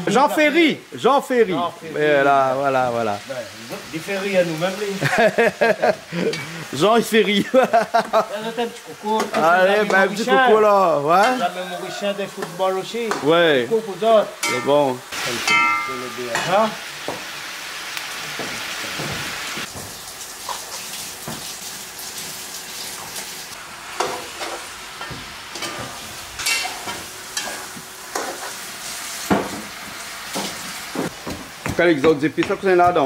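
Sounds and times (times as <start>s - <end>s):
spices sizzling in hot oil: 0.0s - 33.0s.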